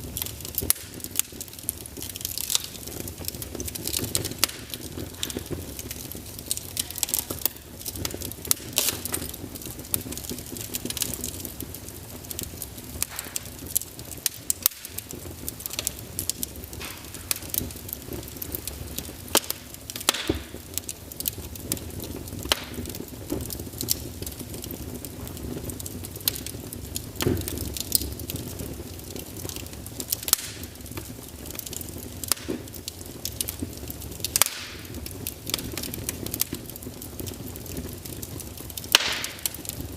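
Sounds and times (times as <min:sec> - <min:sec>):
fire crackling and popping: 0:00.0 - 0:39.9
flames rumbling and hissing: 0:00.0 - 0:39.9.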